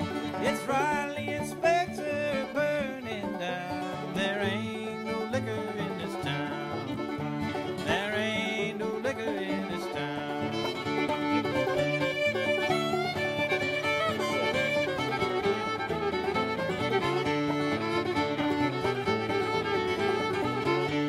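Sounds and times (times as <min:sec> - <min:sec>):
banjo: 0:00.0 - 0:21.0
fiddle: 0:00.0 - 0:21.0.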